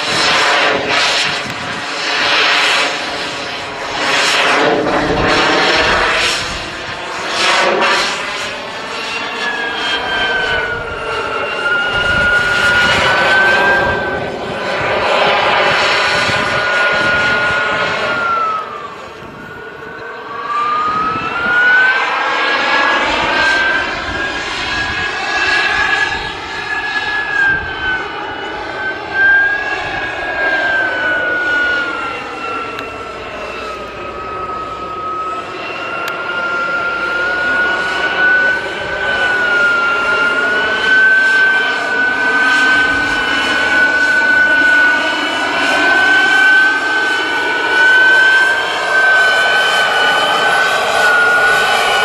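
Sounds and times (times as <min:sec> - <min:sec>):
model jet engine whine: 0:00.0 - 0:52.0.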